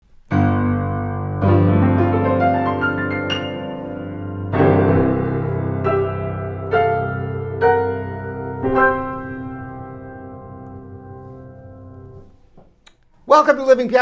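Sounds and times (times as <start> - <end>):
piano playing slow chords: 0.2 - 12.4
high piano note: 0.3 - 12.4.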